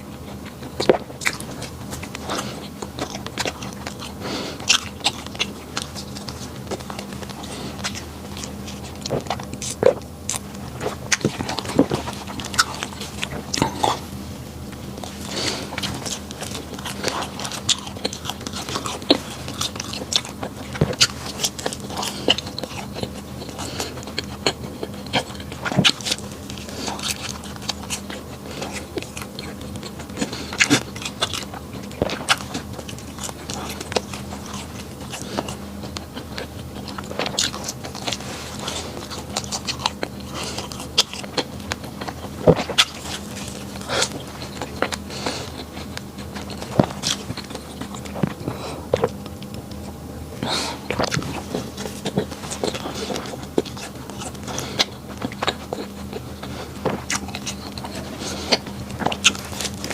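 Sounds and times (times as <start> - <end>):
person chewing bread: 0.0 - 59.9.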